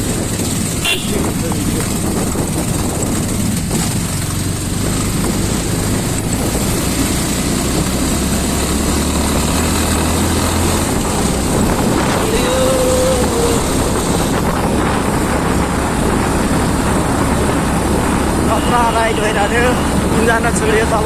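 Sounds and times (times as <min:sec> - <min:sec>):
motorcycle engine running: 0:00.0 - 0:21.0
road noise: 0:00.0 - 0:21.0
wind noise: 0:00.0 - 0:21.0.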